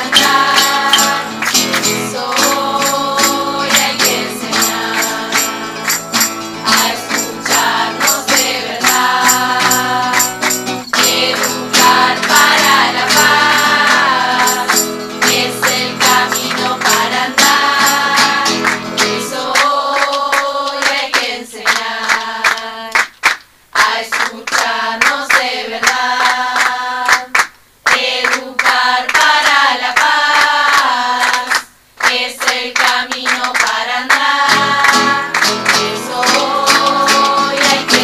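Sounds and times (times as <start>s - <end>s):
voices singing with instruments: 0.0s - 23.1s, 23.7s - 38.0s.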